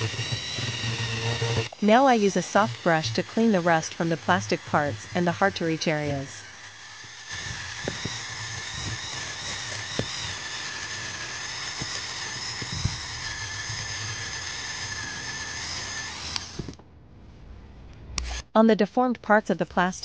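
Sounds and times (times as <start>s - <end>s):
rotary tool high whine: 0.0s - 16.8s, 18.2s - 18.5s.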